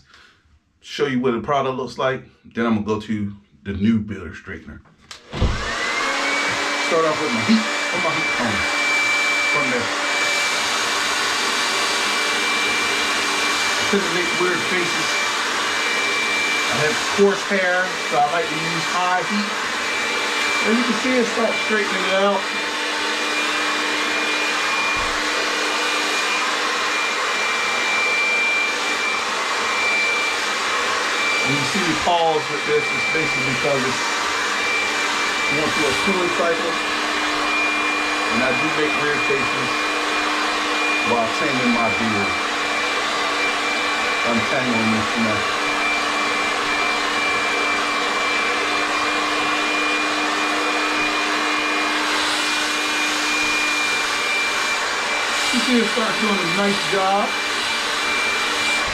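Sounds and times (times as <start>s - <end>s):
hair dryer blowing air: 5.1s - 58.9s
hair dryer motor whine: 5.1s - 58.9s.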